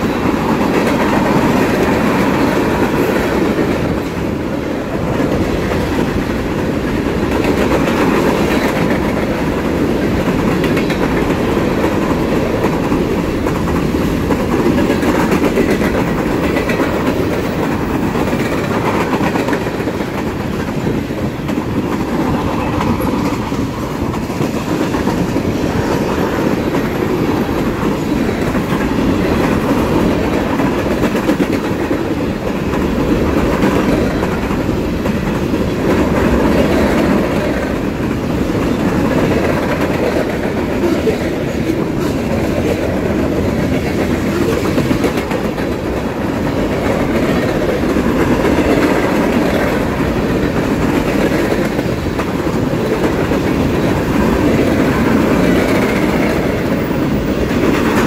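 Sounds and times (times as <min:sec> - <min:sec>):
freight train cars rumbling past: 0:00.0 - 0:58.0
wheels clacking over rail joints: 0:00.0 - 0:58.0.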